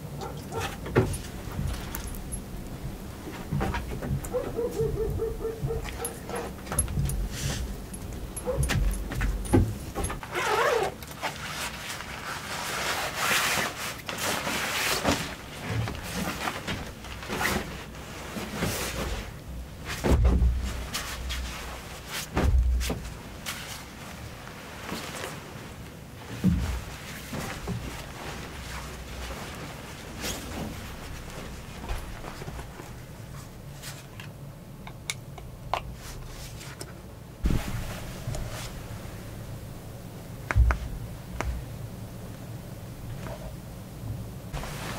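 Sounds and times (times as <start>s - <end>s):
synthetic fabric rustling: 0.0s - 34.2s, 37.4s - 39.5s, 44.5s - 44.9s
low background hum: 0.0s - 44.9s.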